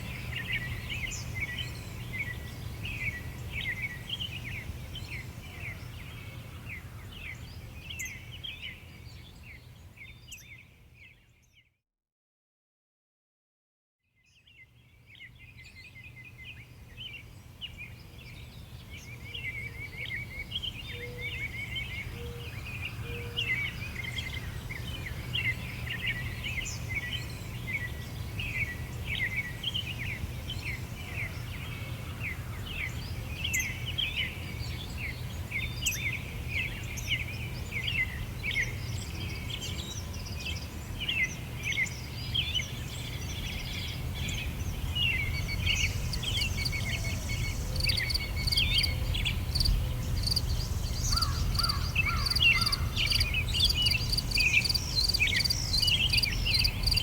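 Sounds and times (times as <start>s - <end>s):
songbirds chirping and twittering: 0.0s - 11.8s, 14.2s - 57.0s.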